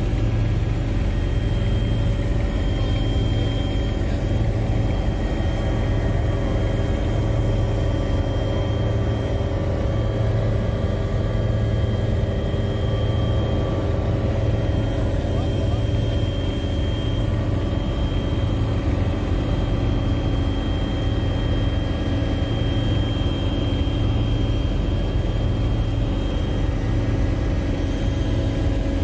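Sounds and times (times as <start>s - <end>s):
helicopter engine and rotor drone: 0.0s - 29.0s
high whine: 0.0s - 29.0s.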